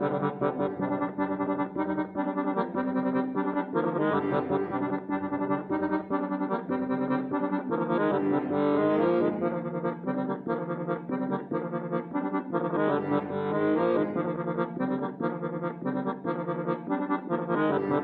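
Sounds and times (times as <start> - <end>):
accordion melody over held chords: 0.0 - 18.0.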